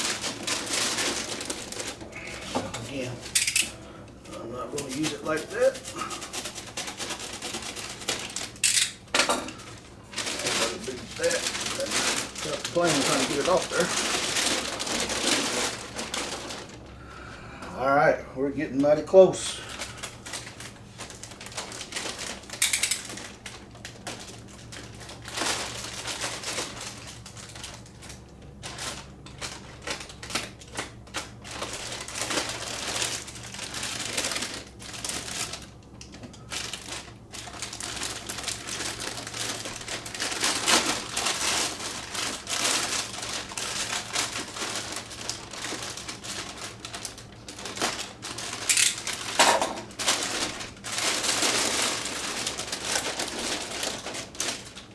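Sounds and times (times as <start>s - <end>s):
packing material rustling: 0.0s - 17.2s, 18.7s - 54.9s.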